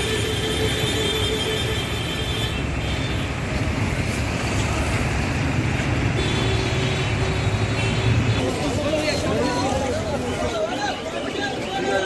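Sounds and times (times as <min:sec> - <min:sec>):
bus passing: 0:00.0 - 0:12.0
cars passing: 0:00.0 - 0:12.0.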